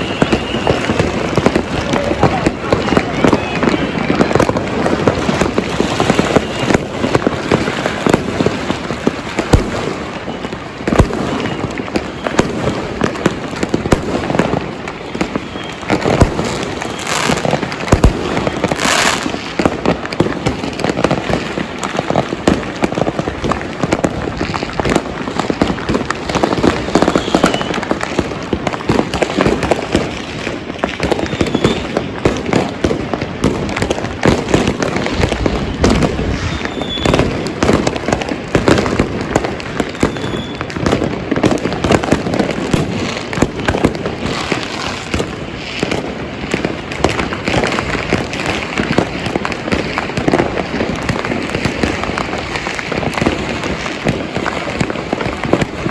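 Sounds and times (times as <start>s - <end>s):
firecrackers crackling: 0.0s - 55.9s
loud firework blasts: 0.0s - 55.9s.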